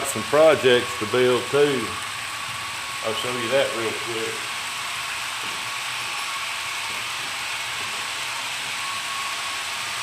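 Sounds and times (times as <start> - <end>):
model train motors whirring: 0.0 - 10.0.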